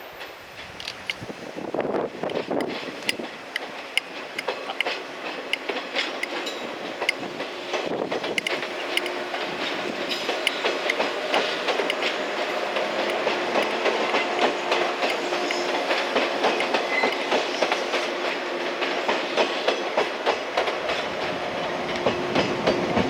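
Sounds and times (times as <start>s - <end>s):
steady train hum: 0.0s - 23.0s
train wheels clacking: 0.2s - 23.0s.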